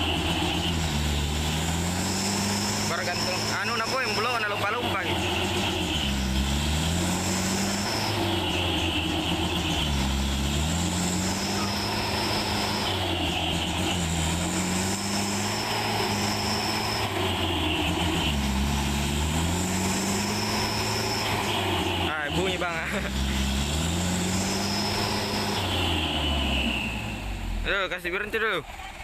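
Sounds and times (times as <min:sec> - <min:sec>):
diesel truck engine revving: 0:00.0 - 0:29.0.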